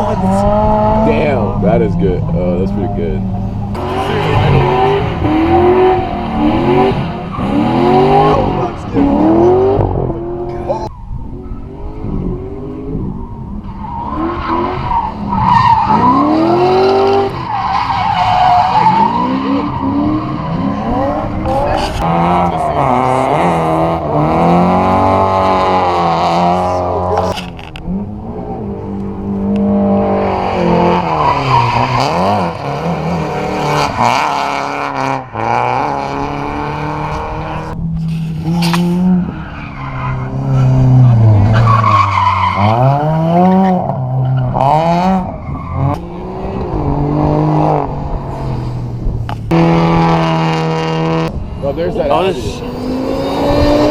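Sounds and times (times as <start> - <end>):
car engines revving hard: 0.0 - 53.9
tires skidding and squealing: 2.4 - 53.9.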